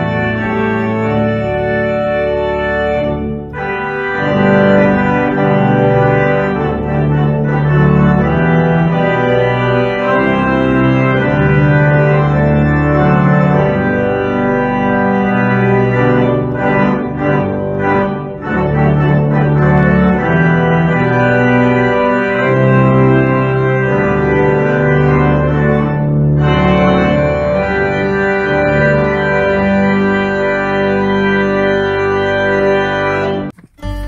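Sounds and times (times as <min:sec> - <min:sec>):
church organ playing a hymn: 0:00.0 - 0:34.0.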